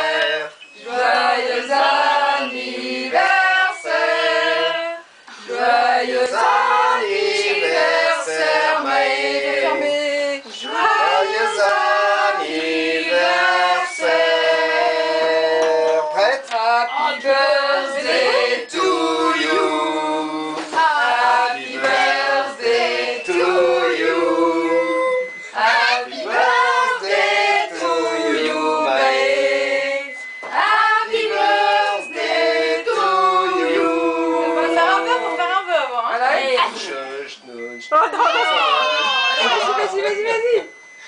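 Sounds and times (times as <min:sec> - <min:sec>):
group singing birthday song: 0:00.0 - 0:41.0.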